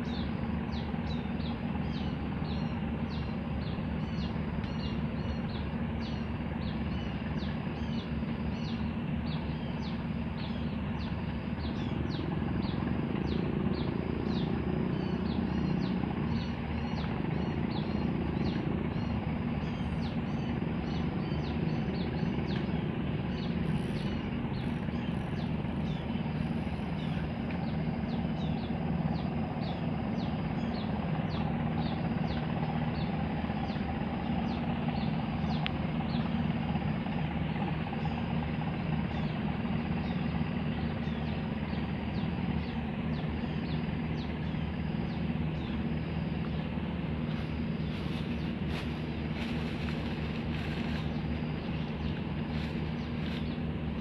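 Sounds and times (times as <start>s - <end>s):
low drone: 0.0s - 54.0s.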